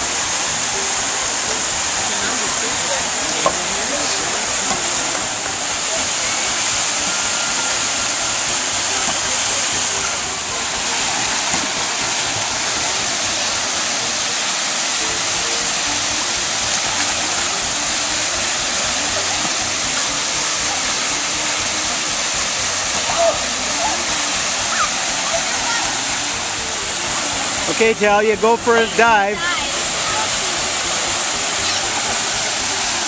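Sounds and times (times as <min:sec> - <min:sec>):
faint voices: 0:00.0 - 0:33.0
rushing falling water: 0:00.0 - 0:33.0.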